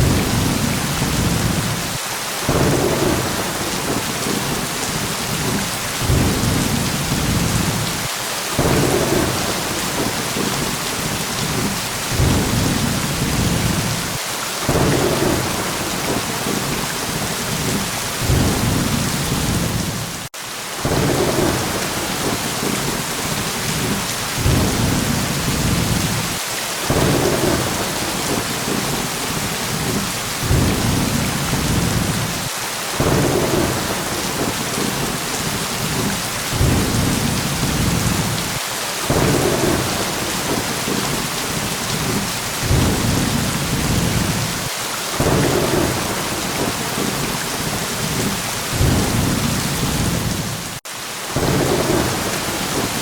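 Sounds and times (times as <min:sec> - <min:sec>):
rolling thunder: 0:00.0 - 0:20.2, 0:20.8 - 0:50.8
heavy rain: 0:00.0 - 0:53.0.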